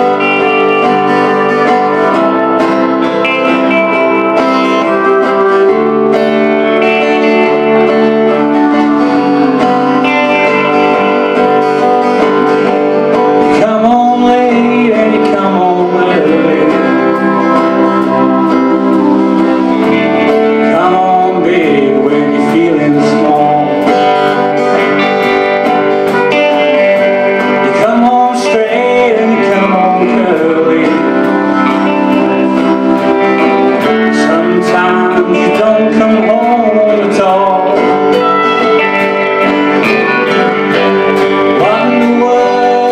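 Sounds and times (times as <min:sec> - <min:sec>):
country band playing: 0:00.0 - 0:42.9
person singing: 0:00.0 - 0:42.9.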